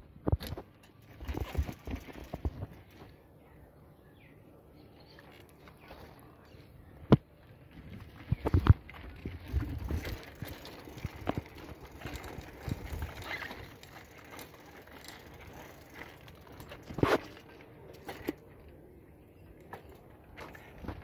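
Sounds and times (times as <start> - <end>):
bicycle rattling over dirt road: 0.1 - 3.3, 7.4 - 21.0.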